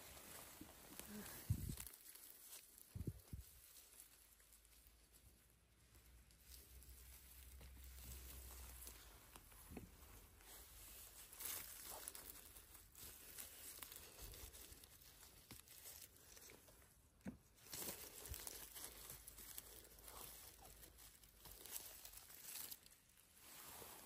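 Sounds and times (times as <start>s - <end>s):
rustling and crinkling: 0.0s - 24.0s.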